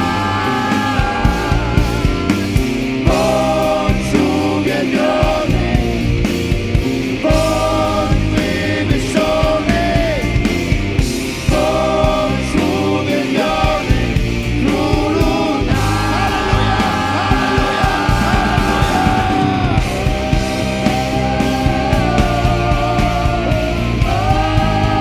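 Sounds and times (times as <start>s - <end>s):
person singing: 0.0s - 10.7s, 11.3s - 25.0s
live rock band playing: 0.0s - 25.0s.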